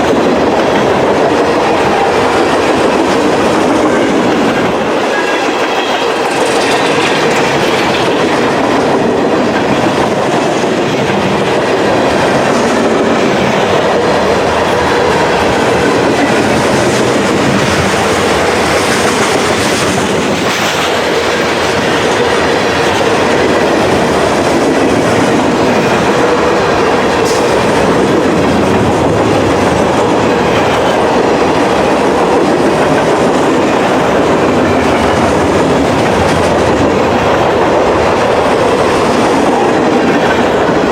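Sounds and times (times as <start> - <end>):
freight train cars rolling past: 0.0 - 40.9
wheels clicking over rail joints: 0.0 - 40.9.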